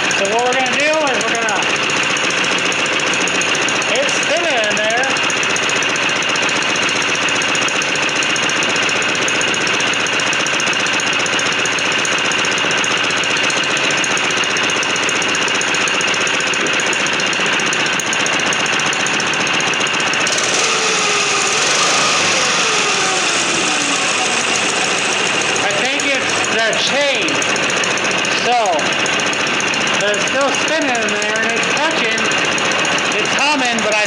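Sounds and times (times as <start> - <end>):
clutch spinning and humming: 0.0 - 34.0
engine at fast idle: 0.0 - 34.0.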